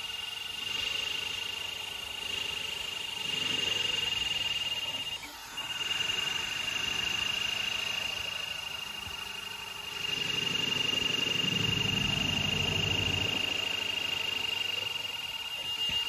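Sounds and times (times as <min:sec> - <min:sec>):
high-pitched printer whine: 0:00.0 - 0:16.0
whir of fast-moving toolhead: 0:00.0 - 0:16.0.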